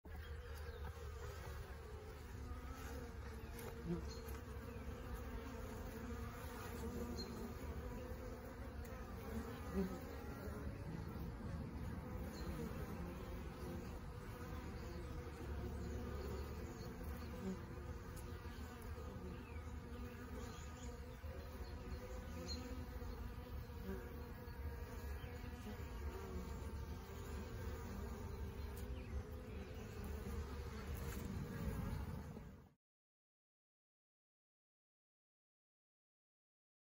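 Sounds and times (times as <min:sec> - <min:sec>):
honeybees buzzing: 0:00.1 - 0:32.8.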